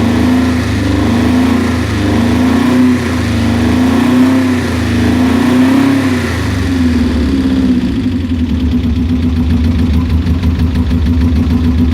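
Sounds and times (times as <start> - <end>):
car engine idling roughly: 0.0 - 11.9.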